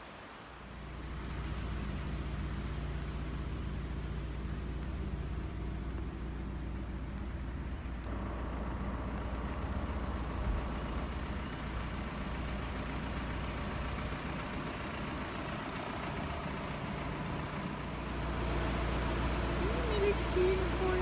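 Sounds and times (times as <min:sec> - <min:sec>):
car road rumble from inside: 0:00.6 - 0:21.0.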